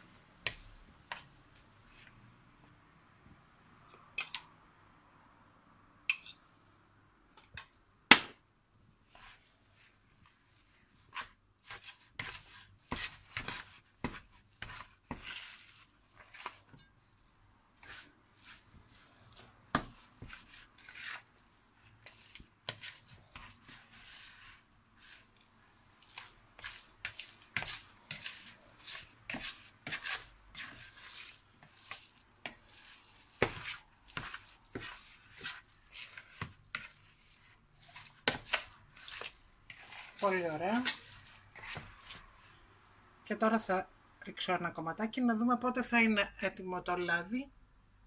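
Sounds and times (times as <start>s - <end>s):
spoon stirring thick batter: 0.0s - 4.6s, 7.3s - 43.0s.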